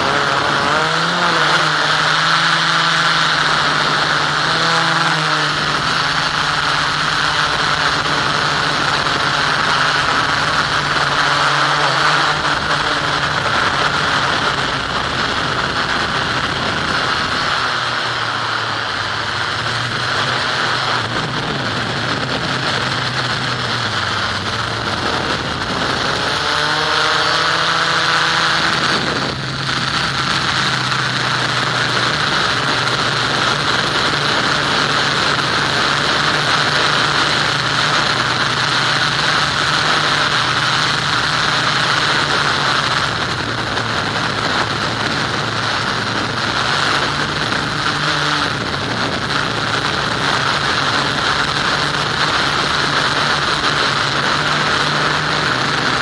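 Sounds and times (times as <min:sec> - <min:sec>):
model aircraft motor and propeller: 0:00.0 - 0:56.0
rushing wind noise: 0:00.0 - 0:56.0.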